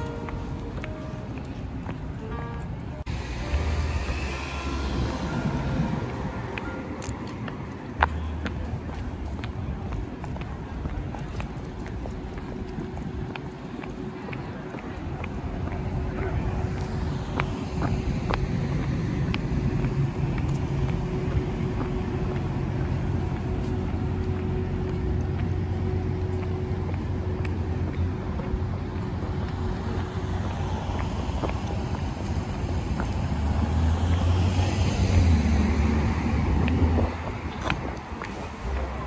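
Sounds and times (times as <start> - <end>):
street traffic hum: 0.0 - 39.0.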